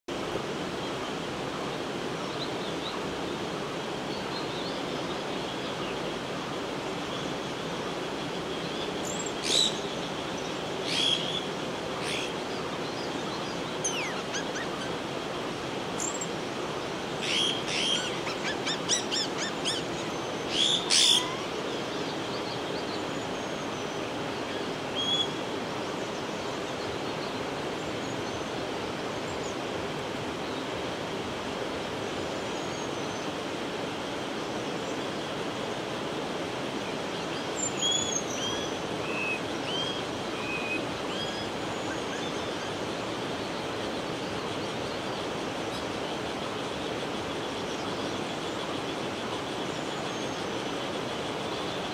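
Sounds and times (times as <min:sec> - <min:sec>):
background hiss: 0:00.1 - 0:51.9.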